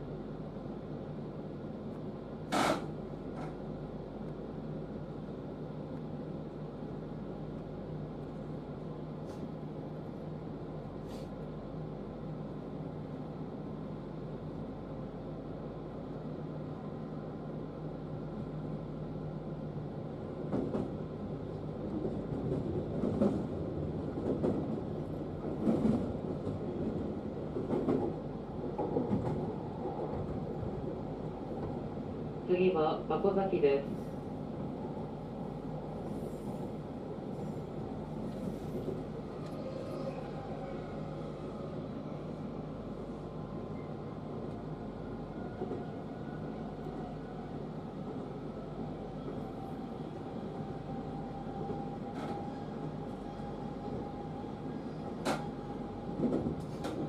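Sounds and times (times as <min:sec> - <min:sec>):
electric train hum: 0:00.0 - 0:57.0.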